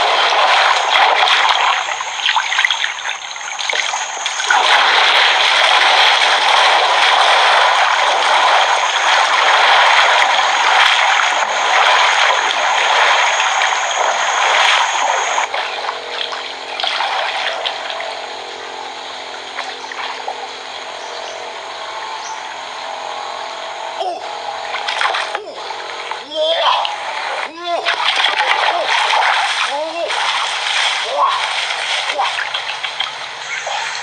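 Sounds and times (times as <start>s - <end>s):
faint steady hum: 0.0s - 34.0s
running water rushing: 0.0s - 34.0s.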